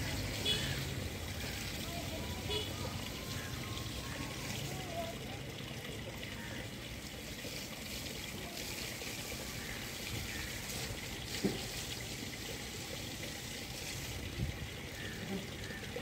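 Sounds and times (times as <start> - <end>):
water pouring and trickling: 0.0 - 16.0.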